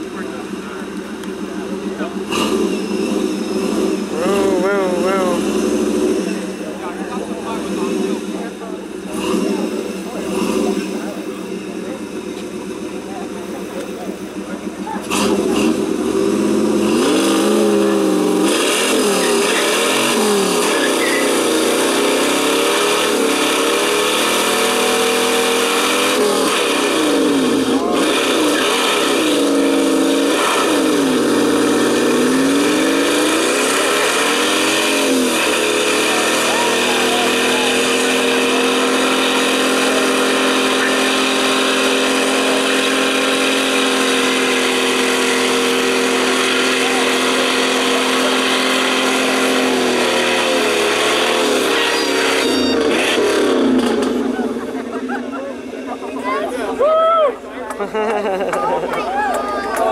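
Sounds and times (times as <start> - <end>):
car engine revving hard: 0.0 - 56.8
tyres spinning on wet track: 0.0 - 56.8, 57.4 - 59.9.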